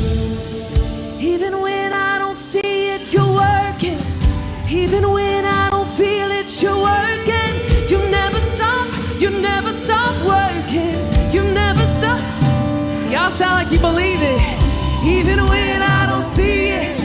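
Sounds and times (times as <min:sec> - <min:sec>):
band playing sustained chords: 0:00.0 - 0:17.0
lead singer singing: 0:01.0 - 0:17.0.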